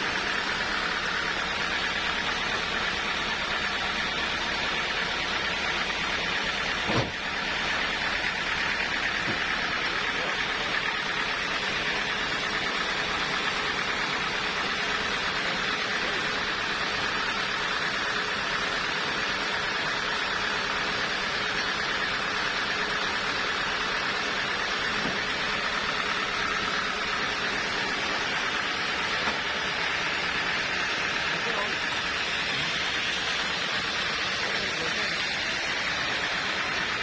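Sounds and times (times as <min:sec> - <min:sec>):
woodworking machinery running: 0:00.0 - 0:37.0.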